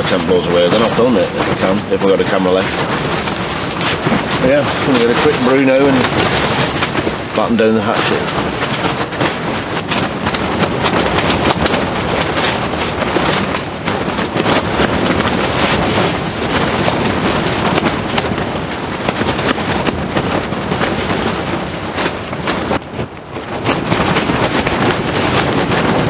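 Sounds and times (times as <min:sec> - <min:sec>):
heavy rain on tent fabric: 0:00.0 - 0:26.0
storm wind: 0:00.0 - 0:26.0
tent fabric slapping and rattling: 0:00.0 - 0:26.0.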